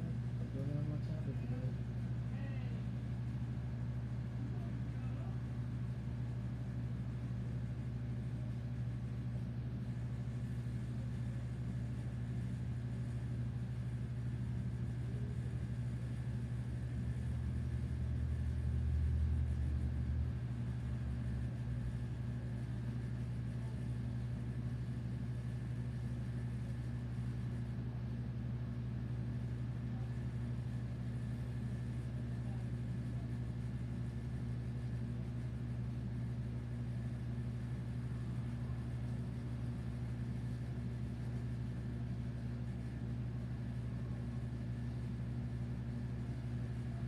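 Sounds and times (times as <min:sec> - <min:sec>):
air conditioner compressor hum: 0:00.0 - 0:47.0.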